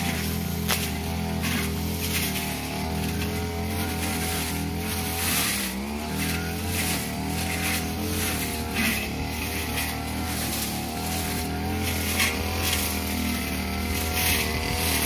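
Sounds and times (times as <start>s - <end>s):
blade swishing through grass: 0.0s - 15.0s
brush cutter running at high speed: 0.0s - 15.0s.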